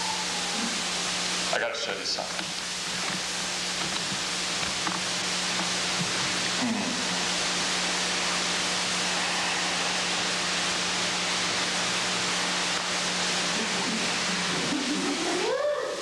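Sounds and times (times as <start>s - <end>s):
tape hiss: 0.0s - 16.0s.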